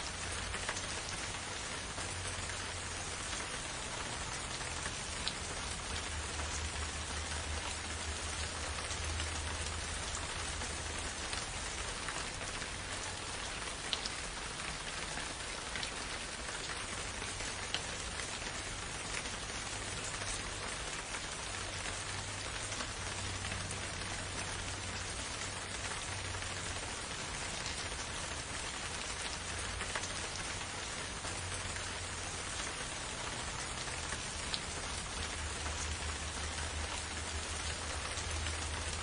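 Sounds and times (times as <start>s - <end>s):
rain falling on foliage: 0.0s - 39.0s
raindrop ticks: 0.0s - 39.0s.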